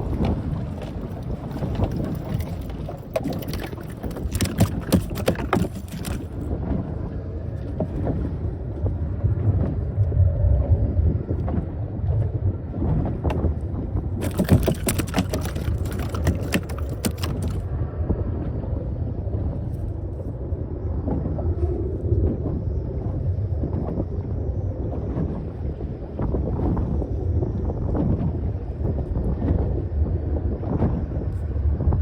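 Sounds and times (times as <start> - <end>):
wind and water rumble: 0.0 - 32.0
wind buffeting microphone: 0.0 - 32.0.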